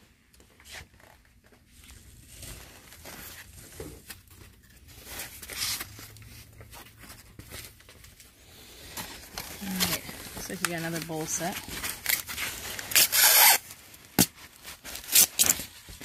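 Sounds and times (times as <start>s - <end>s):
foam and plastic wrap rustling: 0.5s - 16.0s.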